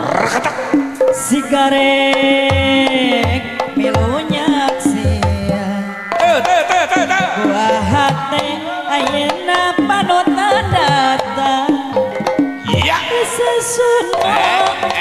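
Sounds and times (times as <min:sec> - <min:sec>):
wavering sliding melody: 0:00.0 - 0:14.8.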